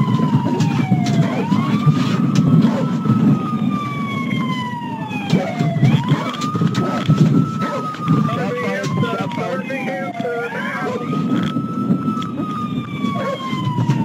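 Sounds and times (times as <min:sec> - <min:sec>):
police siren wailing: 0:00.0 - 0:14.0.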